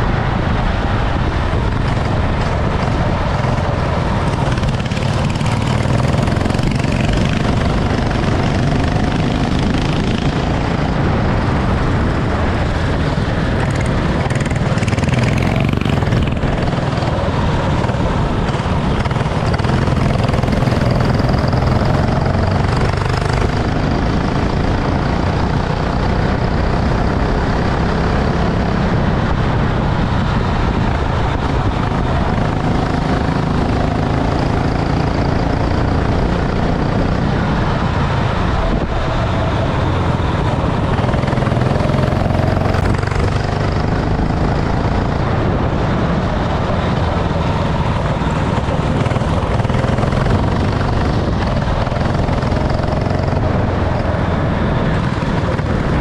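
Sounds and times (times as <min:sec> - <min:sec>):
kart engine revving: 0:01.7 - 0:29.8, 0:31.7 - 0:56.0.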